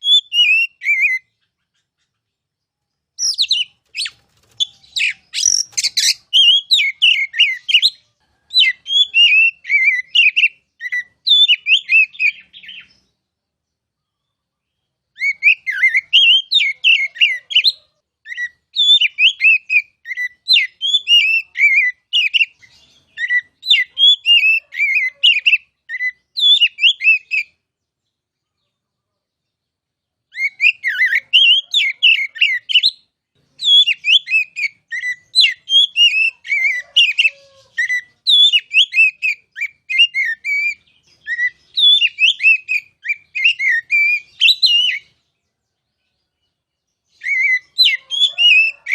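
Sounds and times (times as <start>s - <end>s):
bird singing whistled phrases: 0.0s - 1.3s, 3.2s - 8.0s, 8.6s - 13.0s, 15.2s - 27.6s, 30.3s - 45.2s, 47.1s - 48.9s.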